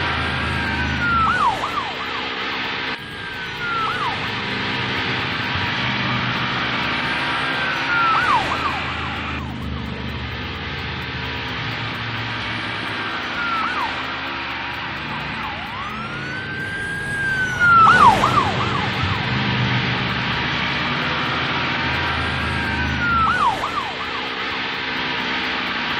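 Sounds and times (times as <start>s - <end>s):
police siren wailing: 0.0s - 25.9s
steady rushing noise: 0.0s - 25.9s.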